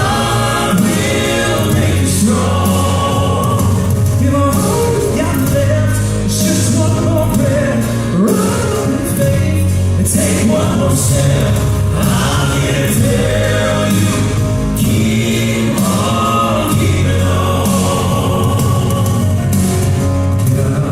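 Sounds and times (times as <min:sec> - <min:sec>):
instrumental accompaniment with beat: 0:00.0 - 0:20.9
male vocal quartet singing: 0:00.0 - 0:20.9.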